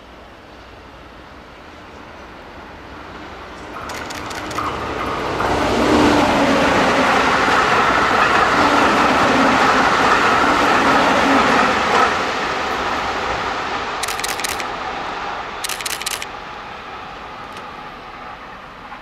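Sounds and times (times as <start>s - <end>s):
train hum: 0.0s - 19.0s
train wheels rumbling on rail: 0.1s - 19.0s.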